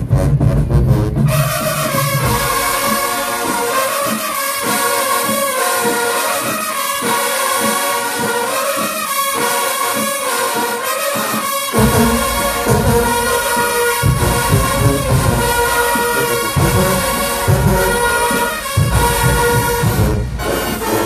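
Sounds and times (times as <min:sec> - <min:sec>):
marching band brass playing chords: 0:00.0 - 0:21.0.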